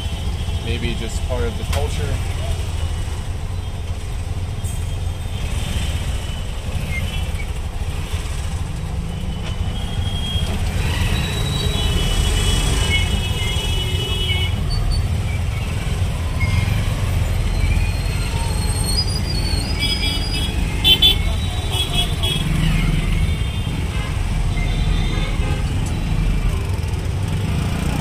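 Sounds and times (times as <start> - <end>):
rumble of passing vehicles: 0.0 - 28.0.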